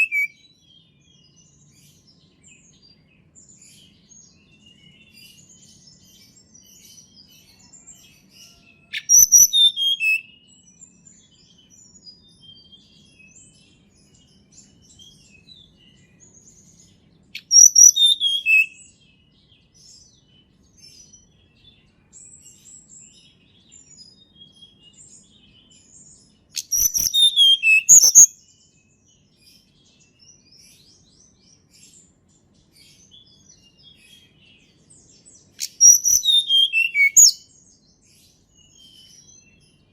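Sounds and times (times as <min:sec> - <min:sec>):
faint bird chirps: 0:00.0 - 0:39.9.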